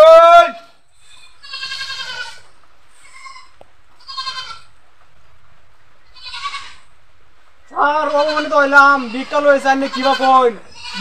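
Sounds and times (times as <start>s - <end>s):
goat bleating: 0.0s - 4.8s, 6.0s - 7.0s, 7.7s - 11.0s.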